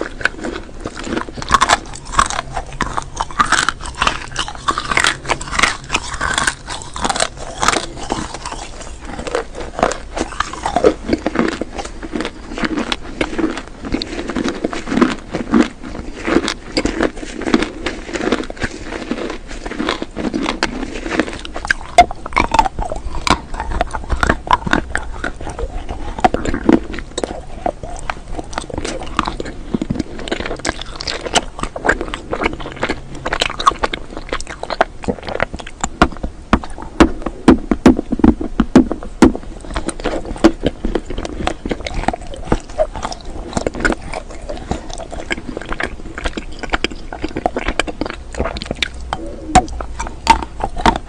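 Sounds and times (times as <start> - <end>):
crunchy chewing and snapping bites: 0.0 - 51.0.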